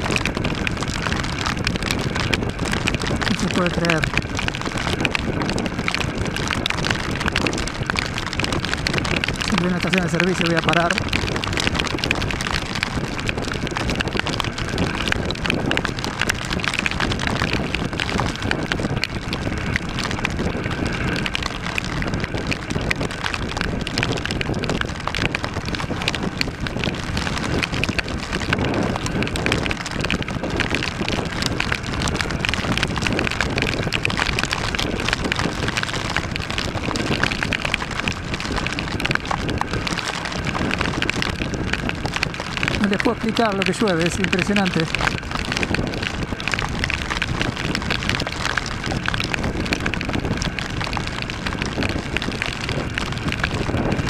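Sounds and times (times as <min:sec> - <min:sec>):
rain pelting microphone: 0:00.0 - 0:54.0
road noise: 0:00.0 - 0:54.0
wind noise: 0:00.0 - 0:54.0.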